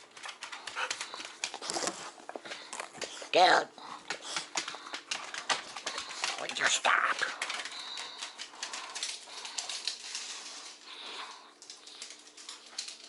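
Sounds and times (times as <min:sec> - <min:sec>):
dog claws clicking on hard floor: 0:00.0 - 0:13.0.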